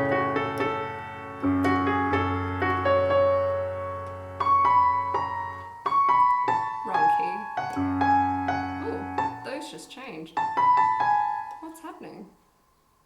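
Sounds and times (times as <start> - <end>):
synthesizer piano chords: 0.0 - 9.8, 10.4 - 11.7.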